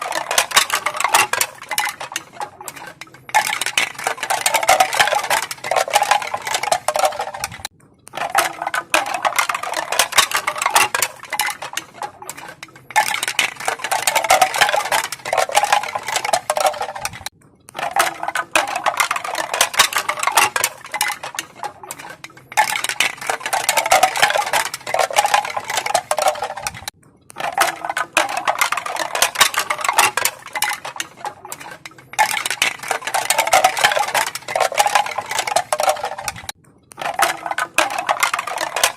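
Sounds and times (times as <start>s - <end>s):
bamboo pieces clacking: 0.0s - 38.9s.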